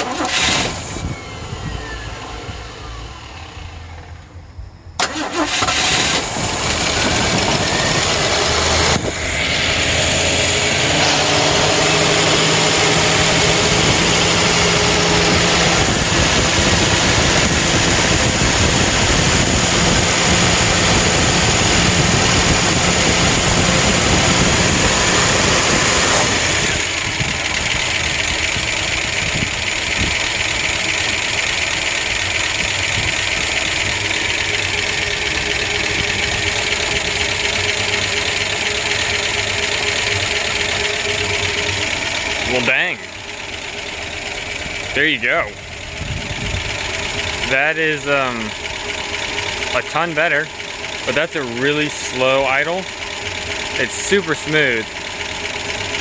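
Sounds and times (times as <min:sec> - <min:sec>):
car engine starting and running: 0:00.0 - 0:56.0.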